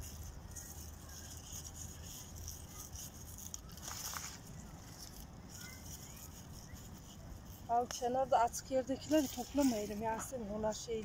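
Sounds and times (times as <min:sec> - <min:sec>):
outdoor background hiss: 0:00.0 - 0:11.0
rustling of leaves being picked: 0:00.0 - 0:11.0.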